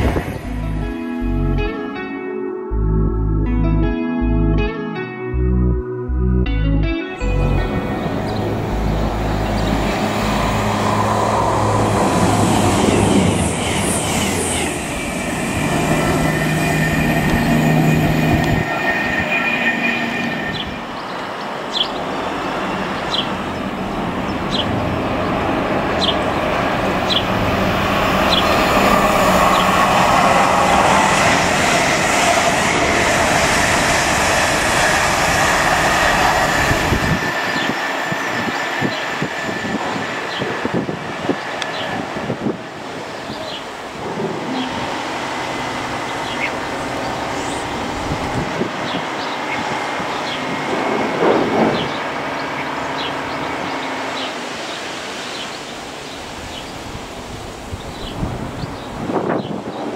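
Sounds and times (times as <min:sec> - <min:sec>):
wheels rushing on rail: 0:00.0 - 0:01.4, 0:07.3 - 0:59.9
electric train approaching: 0:00.0 - 0:59.9.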